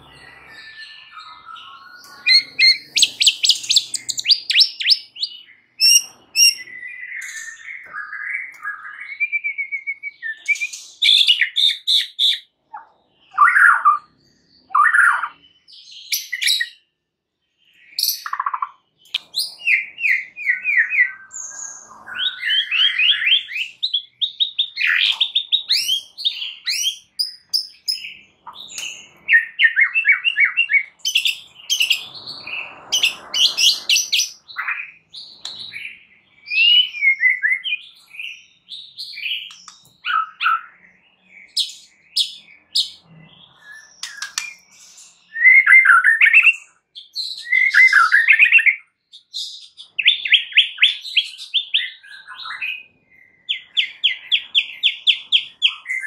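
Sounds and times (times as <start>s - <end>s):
bird singing whistled trills: 0.0s - 16.9s, 17.6s - 56.0s.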